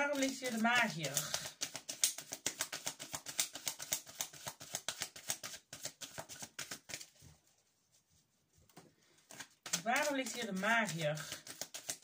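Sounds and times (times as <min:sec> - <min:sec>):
cards being shuffled: 0:00.0 - 0:07.2, 0:08.7 - 0:12.0.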